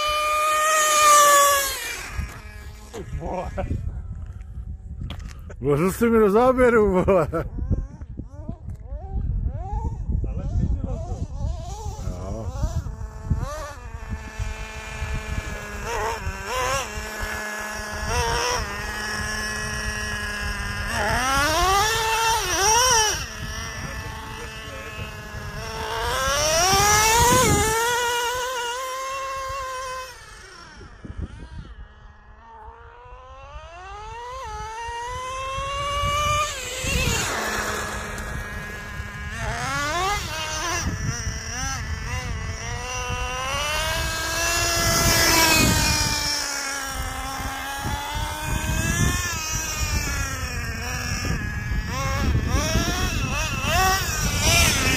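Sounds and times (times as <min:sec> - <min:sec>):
rc truck engine revving: 0:00.0 - 0:04.4, 0:07.0 - 0:54.9.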